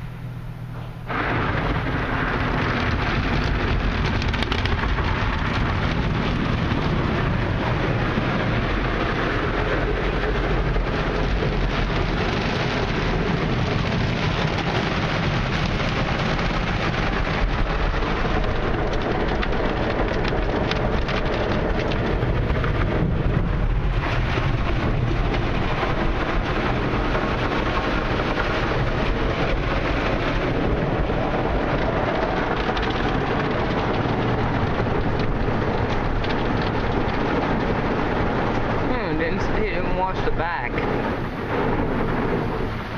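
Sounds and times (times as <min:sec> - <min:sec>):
car wash brushes and water spray: 0:00.0 - 0:42.9.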